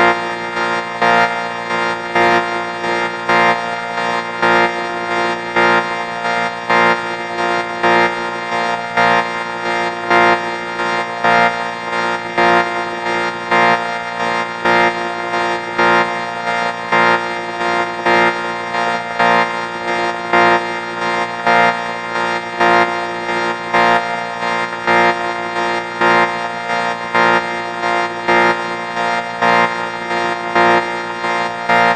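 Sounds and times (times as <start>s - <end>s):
buzzy pulsing drone: 0.0s - 31.9s.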